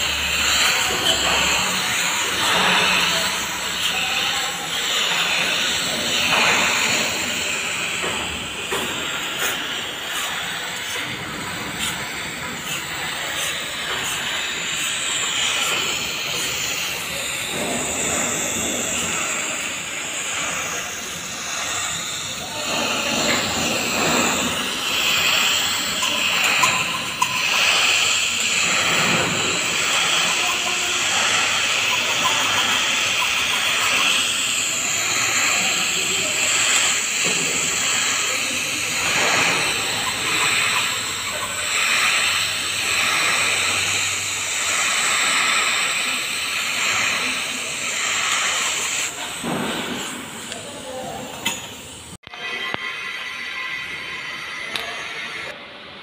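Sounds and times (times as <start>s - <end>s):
welding arc hissing: 0.0s - 55.5s.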